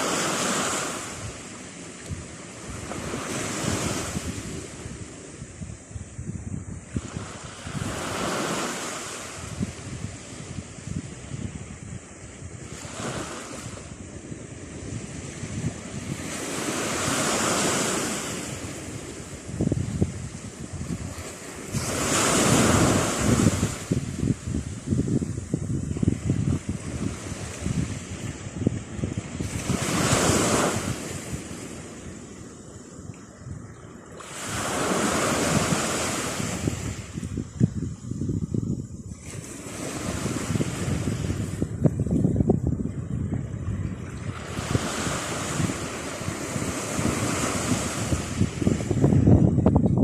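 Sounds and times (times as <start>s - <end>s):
waves breaking on shore: 0.0s - 50.0s
wind buffeting microphone: 0.0s - 50.0s.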